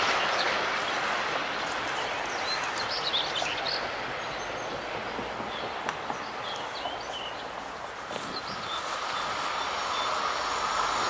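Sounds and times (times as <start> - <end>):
birds chirping: 0.0 - 11.0
freight train wheels rolling: 0.0 - 11.0.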